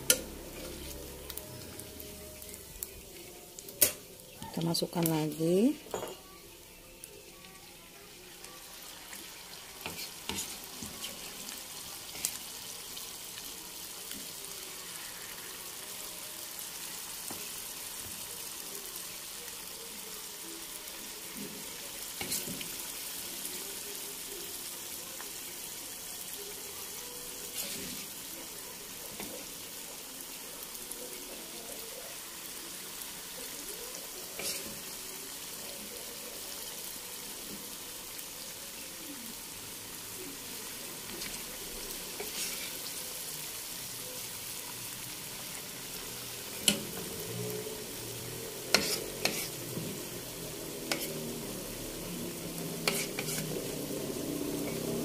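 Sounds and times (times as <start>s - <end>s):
batter sizzling in hot oil: 0.0s - 55.0s.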